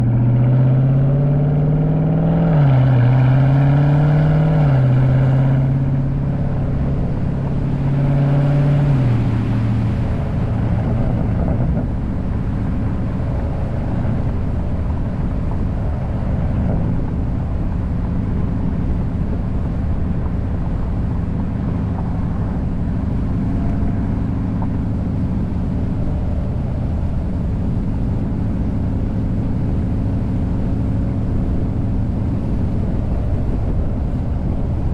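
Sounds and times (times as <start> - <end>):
vehicle exhaust revving and idling: 0.0 - 34.9.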